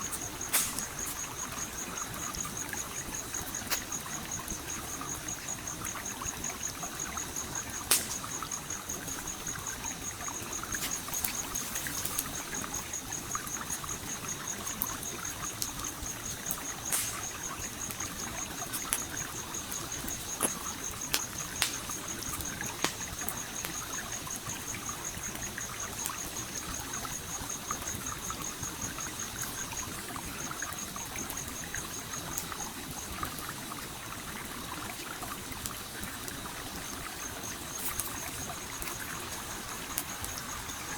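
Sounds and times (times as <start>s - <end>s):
campfire crackling: 0.0s - 40.9s
stream flowing: 0.0s - 40.9s.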